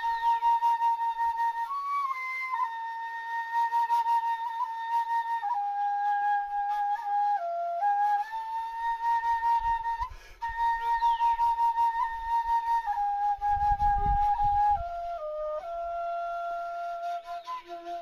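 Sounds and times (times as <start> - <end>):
flute playing slow melody: 0.0 - 18.0.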